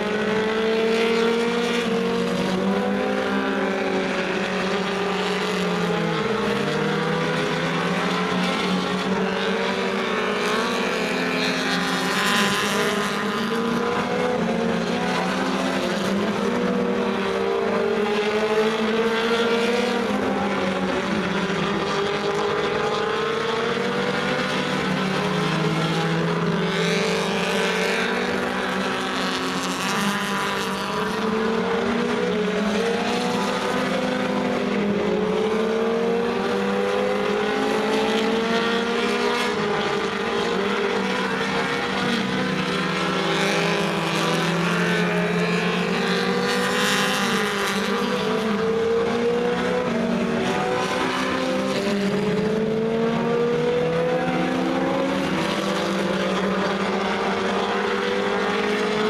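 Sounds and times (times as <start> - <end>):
race car engines at high revs: 0.0 - 59.0.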